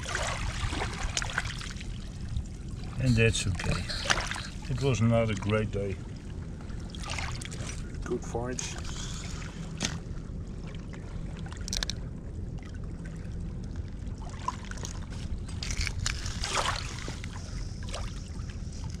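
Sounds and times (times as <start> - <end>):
river water at shoreline: 0.0 - 19.0
wind: 0.0 - 19.0.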